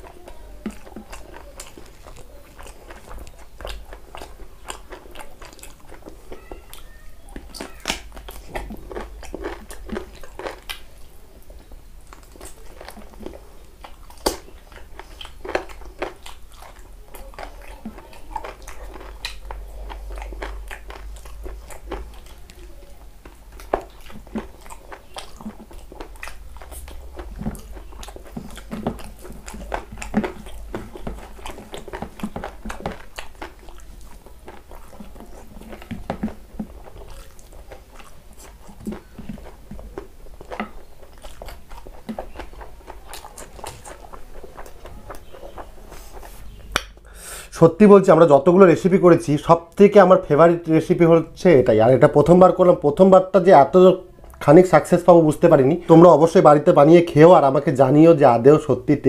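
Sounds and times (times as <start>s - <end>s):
man chewing: 0.0s - 47.5s.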